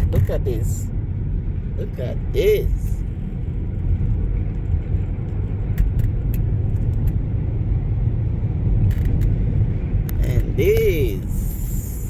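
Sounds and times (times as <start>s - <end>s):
car driving road noise: 0.0s - 12.0s.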